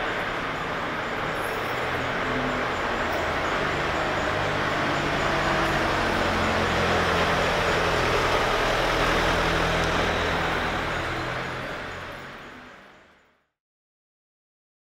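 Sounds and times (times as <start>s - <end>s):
car engine hum: 0.0s - 13.1s.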